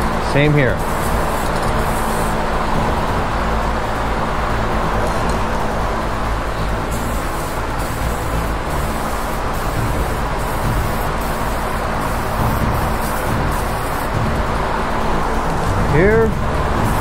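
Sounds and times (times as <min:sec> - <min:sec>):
extraction fan rushing: 0:00.0 - 0:17.0
low hum: 0:00.0 - 0:17.0.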